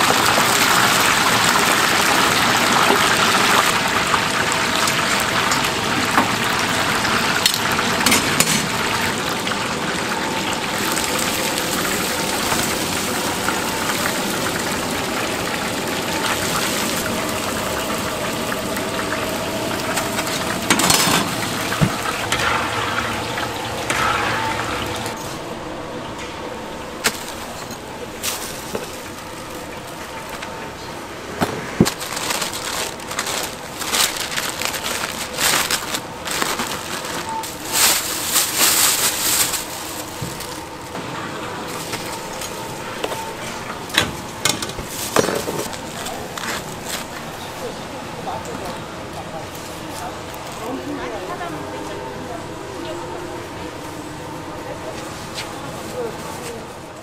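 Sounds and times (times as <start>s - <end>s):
oil sizzling and bubbling: 0.0s - 48.3s.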